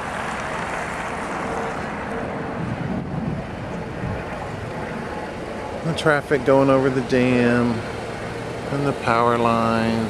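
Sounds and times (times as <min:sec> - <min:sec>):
wind rushing over microphone: 0:00.0 - 0:09.3
road noise: 0:00.0 - 0:10.0.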